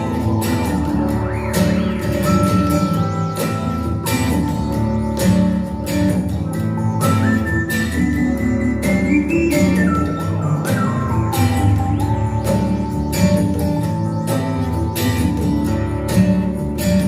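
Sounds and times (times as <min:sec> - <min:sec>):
instrumental pop music on speakers: 0:00.0 - 0:17.0.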